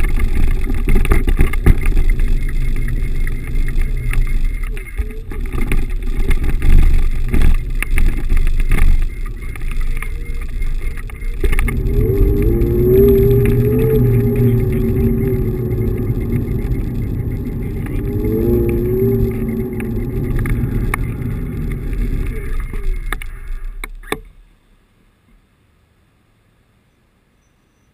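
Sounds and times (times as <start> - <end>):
electric motor whine: 0.0 - 23.9
scooter frame rattling on paving: 0.0 - 23.9
low rumble: 0.0 - 24.7.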